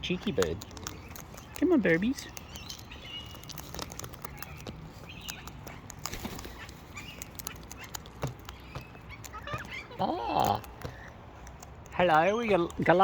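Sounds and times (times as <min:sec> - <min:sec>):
birds pecking clicks and taps: 0:00.0 - 0:13.0.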